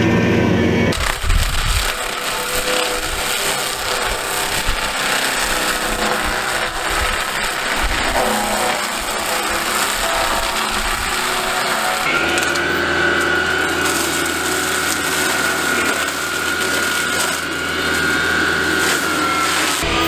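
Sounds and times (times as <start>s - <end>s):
mulcher drum grinding wood: 0.0s - 20.0s.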